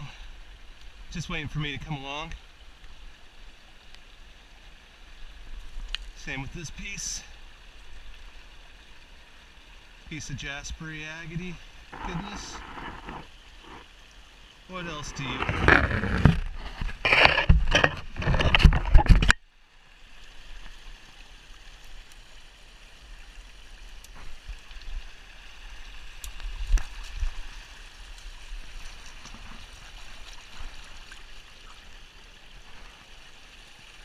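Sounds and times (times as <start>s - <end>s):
creek trickling over gravel: 0.0s - 34.0s.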